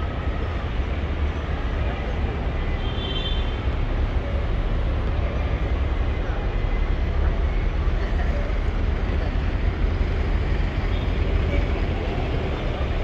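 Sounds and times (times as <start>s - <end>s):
vehicle traffic: 0.0s - 13.0s.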